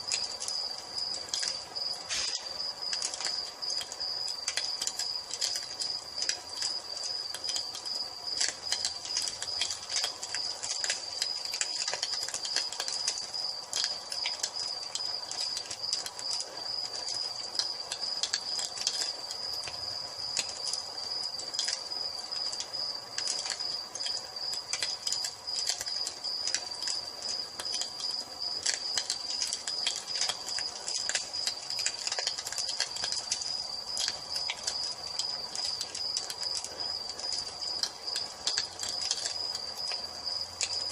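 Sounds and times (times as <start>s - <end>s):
crickets trilling: 0.0s - 40.9s
wood fire crackling and popping: 0.0s - 40.9s.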